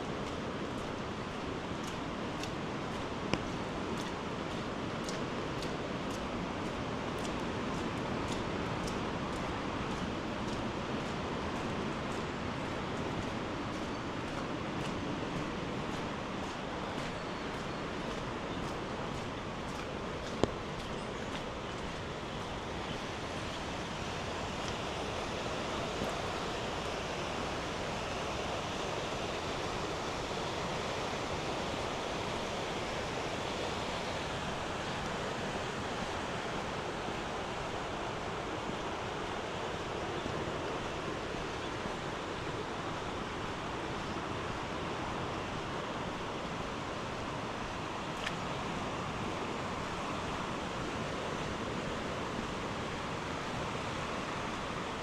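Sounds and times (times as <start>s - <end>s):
rushing floodwater: 0.0s - 55.0s.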